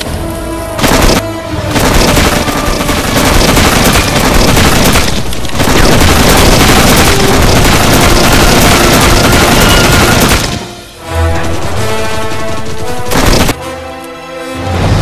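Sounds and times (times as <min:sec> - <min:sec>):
rapid gunfire: 0:00.8 - 0:13.6.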